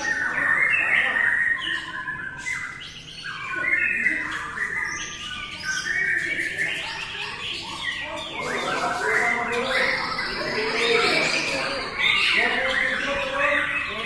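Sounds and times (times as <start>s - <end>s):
birds singing whistled phrases: 0.0s - 14.0s.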